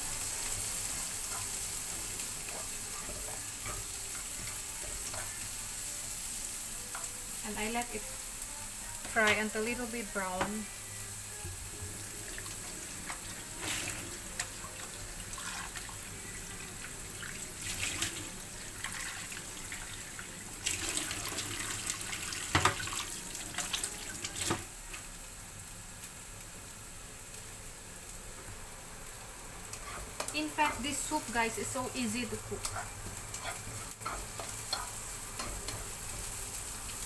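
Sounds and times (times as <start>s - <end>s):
vegetables sizzling in oil: 0.0s - 37.0s.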